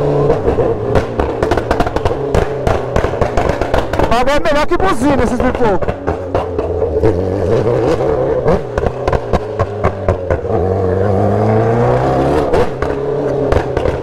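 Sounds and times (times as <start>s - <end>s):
exhaust pops and crackles: 0.0s - 10.7s, 12.3s - 14.0s
motorcycle engine revving: 0.0s - 14.0s.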